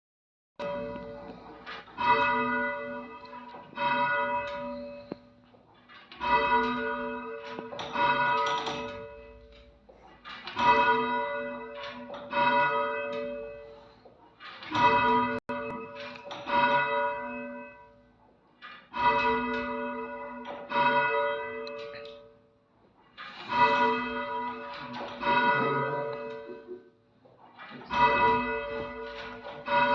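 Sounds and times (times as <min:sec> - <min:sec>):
bells ringing: 0:00.6 - 0:05.5, 0:06.1 - 0:09.8, 0:10.5 - 0:14.1, 0:14.7 - 0:18.2, 0:18.9 - 0:22.4, 0:23.3 - 0:27.0, 0:27.7 - 0:29.9.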